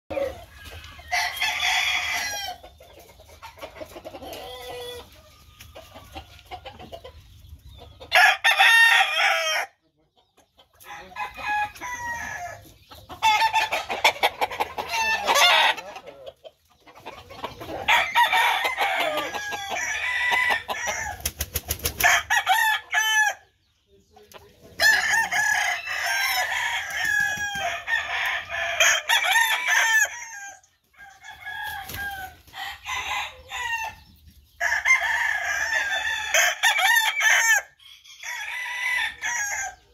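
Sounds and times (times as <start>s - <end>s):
roosters crowing: 0.1s - 2.7s, 3.5s - 6.9s, 8.0s - 9.8s, 10.7s - 23.6s, 24.7s - 39.9s.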